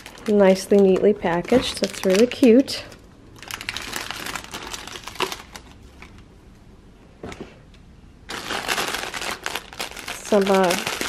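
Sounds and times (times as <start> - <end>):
plastic wrappers crinkling: 0.0 - 6.3, 8.3 - 11.0.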